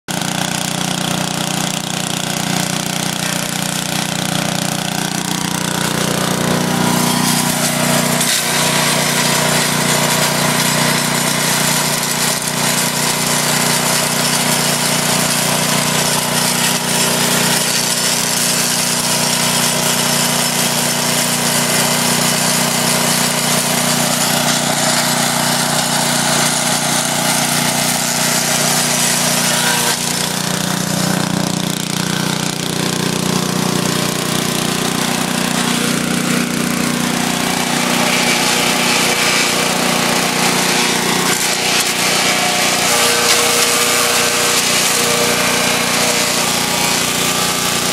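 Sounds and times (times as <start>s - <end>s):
wood chipper grinding: 0.1s - 47.9s.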